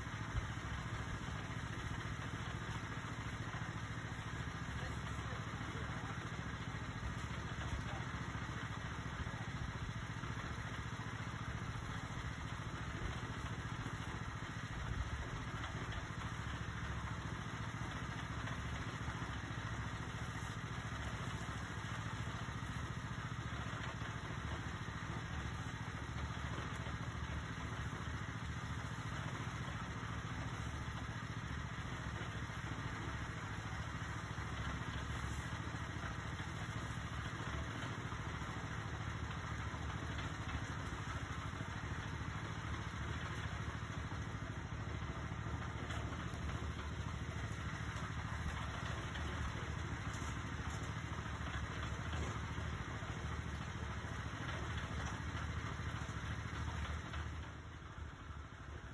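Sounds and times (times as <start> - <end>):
concrete mixer engine running: 0.0 - 58.9.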